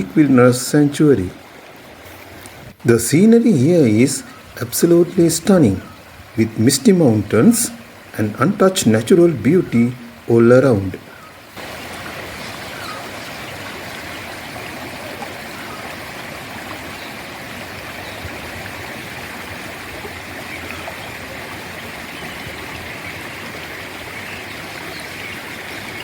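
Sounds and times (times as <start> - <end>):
stream running over rocks: 0.0 - 26.0.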